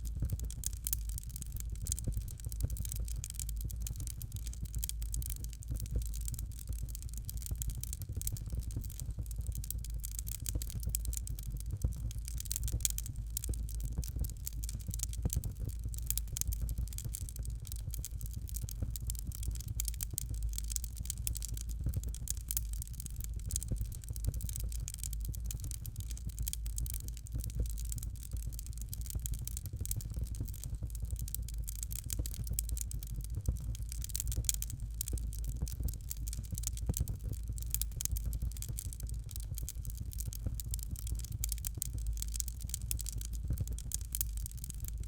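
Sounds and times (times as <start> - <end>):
fire crackling in a fireplace: 0.0 - 45.0.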